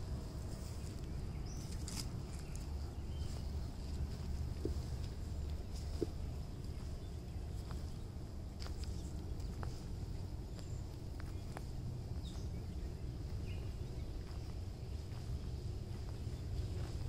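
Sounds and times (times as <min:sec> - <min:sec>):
footsteps on wood-chip mulch: 0:00.0 - 0:17.0
low outdoor rumble: 0:00.0 - 0:17.0.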